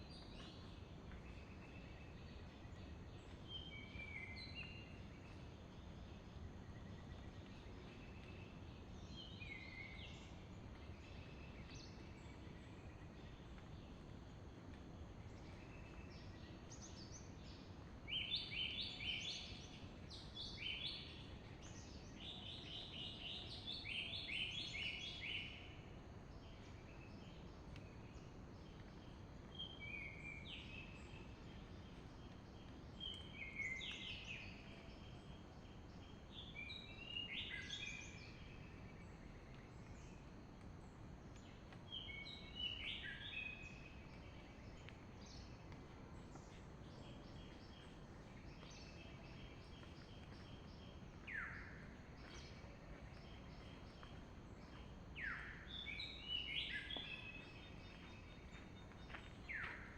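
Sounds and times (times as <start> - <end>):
outdoor background noise: 0.0 - 59.9
songbird chirping: 0.0 - 59.9.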